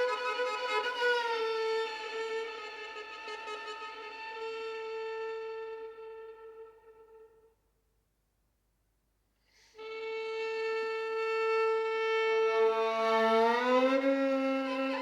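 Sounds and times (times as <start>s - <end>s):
long held violin note: 0.0s - 7.5s, 9.8s - 15.0s.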